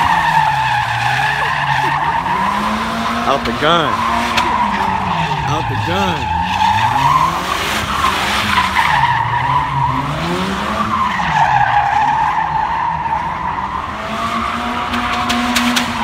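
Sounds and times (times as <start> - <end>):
tyre squealing: 0.0 - 15.8
engine revving: 0.0 - 16.0.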